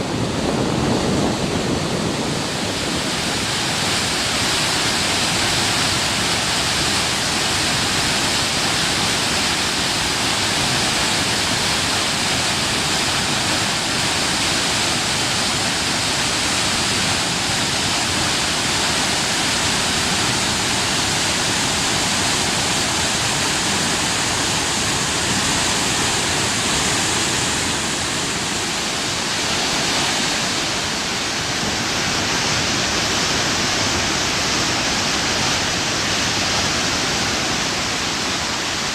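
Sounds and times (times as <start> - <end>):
floodwater rushing: 0.0 - 38.9.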